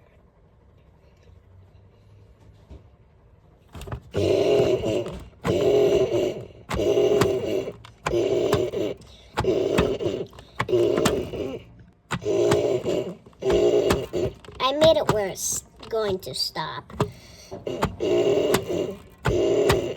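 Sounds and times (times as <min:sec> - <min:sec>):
washing machine churning: 0:03.7 - 0:19.9.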